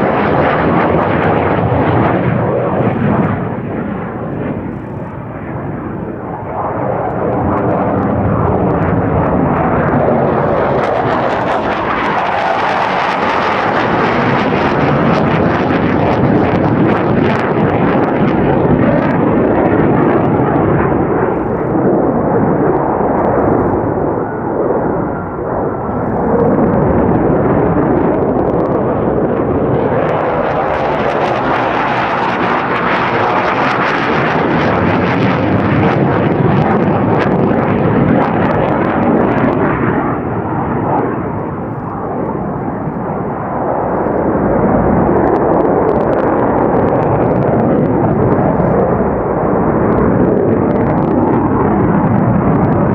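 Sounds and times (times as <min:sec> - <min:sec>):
jet roar overhead: 0:00.0 - 0:52.9.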